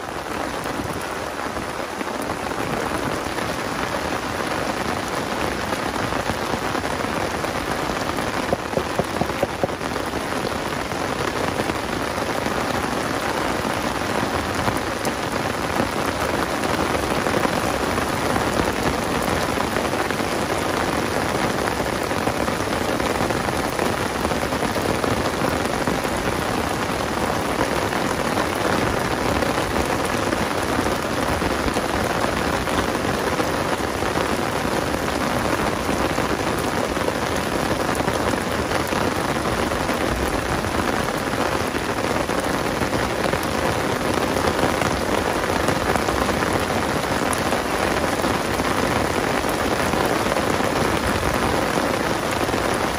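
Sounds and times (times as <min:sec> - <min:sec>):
heavy rain on water: 0:00.0 - 0:52.9
rain drumming on umbrella: 0:00.0 - 0:52.9.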